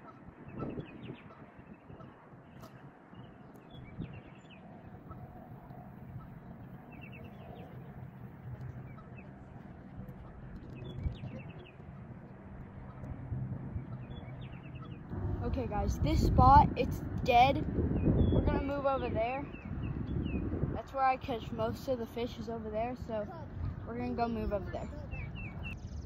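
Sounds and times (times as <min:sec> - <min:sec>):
low steady hum: 0:00.0 - 0:26.0
small birds chirping: 0:00.0 - 0:26.0.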